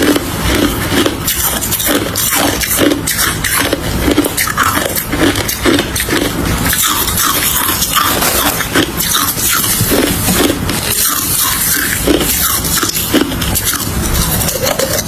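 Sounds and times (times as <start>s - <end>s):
crunching ice being chewed: 0.0s - 15.0s.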